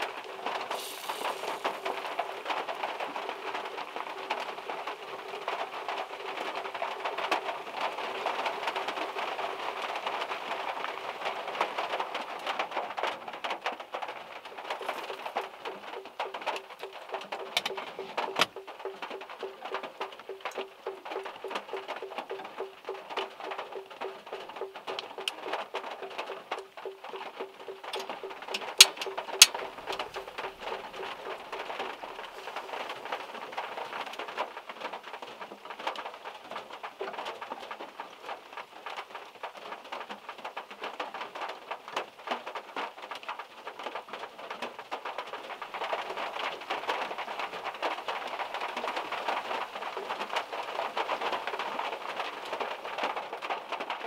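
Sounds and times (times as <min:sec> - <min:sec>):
rain pattering on car roof: 0:00.0 - 0:54.0.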